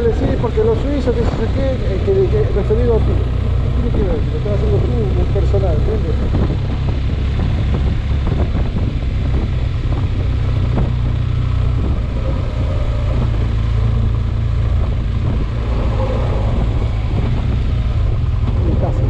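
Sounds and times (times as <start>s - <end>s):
motorcycle engine rumble: 0.0s - 19.0s
wind noise: 0.0s - 19.0s.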